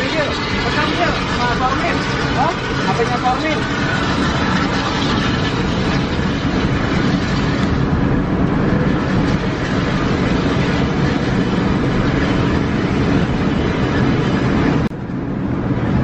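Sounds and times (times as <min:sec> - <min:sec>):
coach engine and tyre noise: 0:00.0 - 0:16.0.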